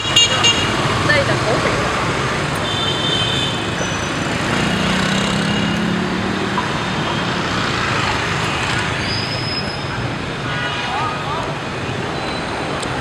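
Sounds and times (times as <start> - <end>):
city street traffic: 0.0 - 13.0
motorbikes passing: 0.0 - 13.0.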